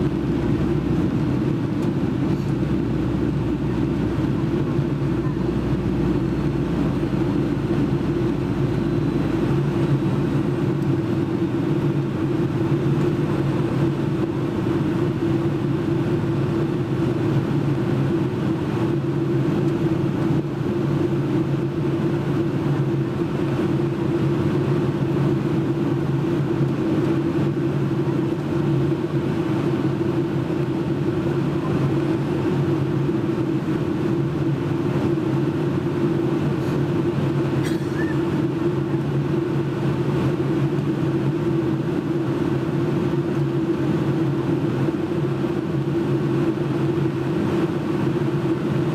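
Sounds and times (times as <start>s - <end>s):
airplane cabin drone: 0.0s - 48.9s.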